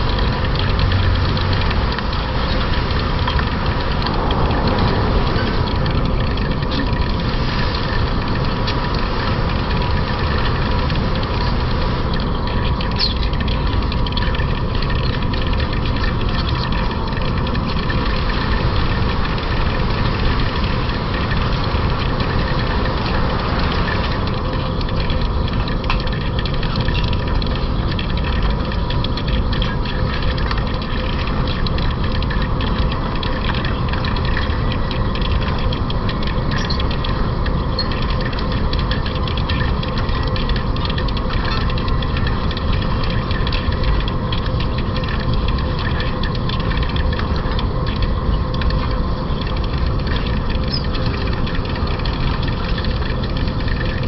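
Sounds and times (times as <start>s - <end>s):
crackle of metal cutting: 0.0s - 54.0s.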